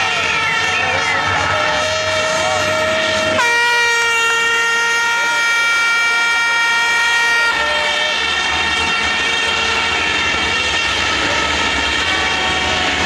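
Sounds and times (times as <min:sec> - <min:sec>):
diesel truck engines running hard: 0:00.0 - 0:13.0.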